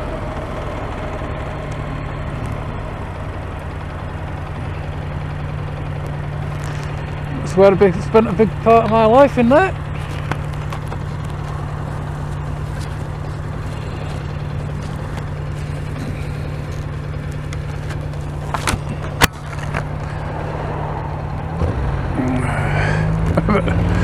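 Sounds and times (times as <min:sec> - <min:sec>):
motorcycle engine idling: 0:00.0 - 0:21.5.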